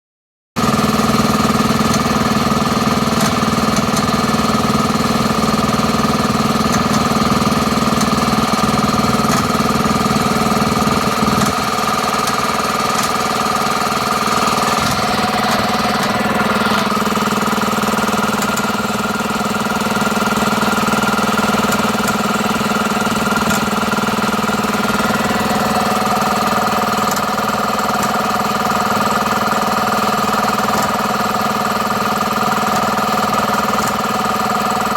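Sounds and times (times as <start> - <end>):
compressor humming and whining: 0.6 - 34.9.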